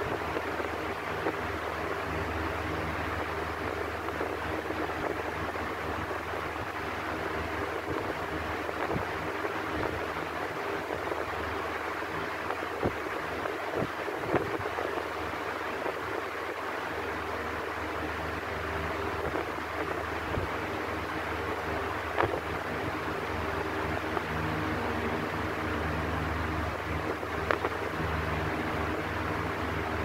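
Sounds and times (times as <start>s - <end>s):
electric fan running: 0.0s - 30.0s.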